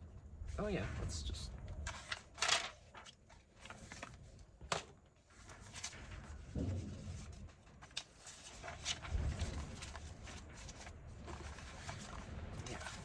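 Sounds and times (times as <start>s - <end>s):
paper rustling: 1.8s - 13.0s.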